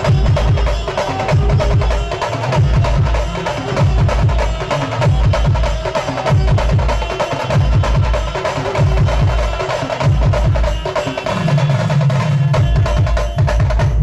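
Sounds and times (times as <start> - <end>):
band music with fast drumming: 0.0 - 14.0.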